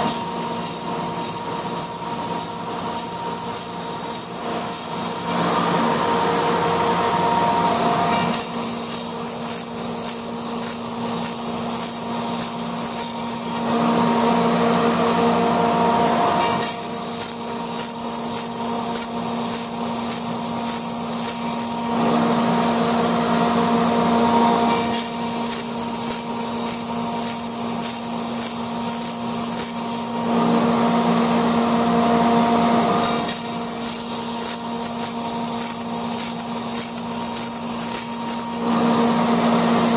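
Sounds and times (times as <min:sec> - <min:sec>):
router cutting foam: 0:00.0 - 0:39.9.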